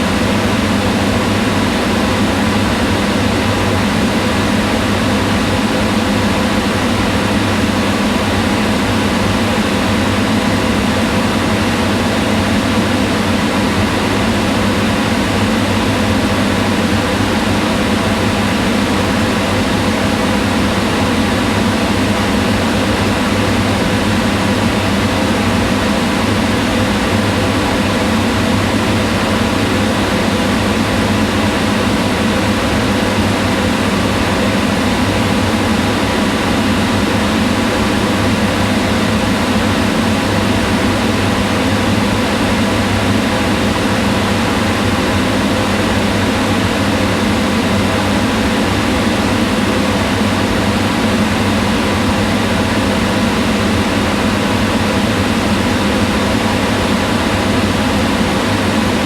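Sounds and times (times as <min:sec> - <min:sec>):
exhaust fan whirring: 0:00.0 - 0:59.0.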